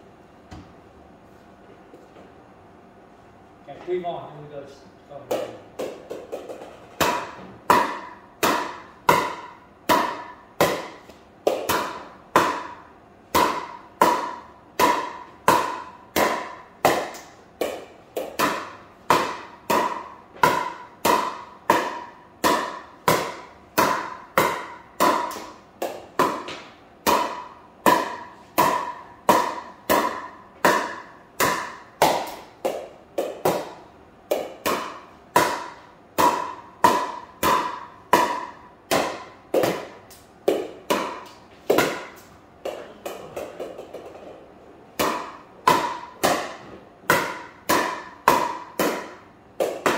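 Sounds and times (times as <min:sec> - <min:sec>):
pickleball paddle hits: 0:05.3 - 0:44.4, 0:45.0 - 0:49.9.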